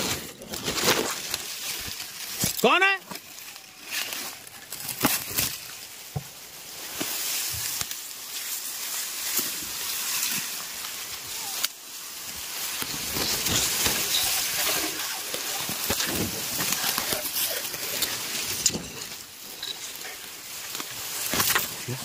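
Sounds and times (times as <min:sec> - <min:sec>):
dry grass rustling: 0:00.0 - 0:22.0.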